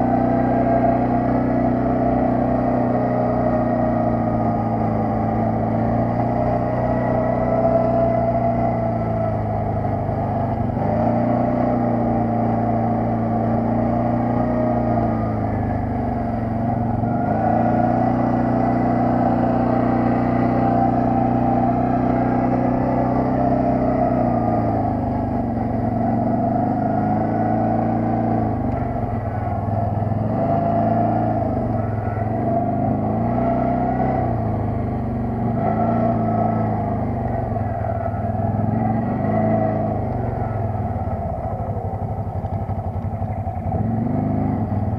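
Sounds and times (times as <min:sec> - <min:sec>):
atv engine revving: 0:00.0 - 0:44.9.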